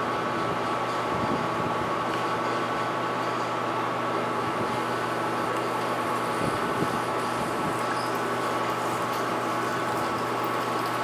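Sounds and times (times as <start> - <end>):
milling machine spindle whine: 0.6 - 11.0.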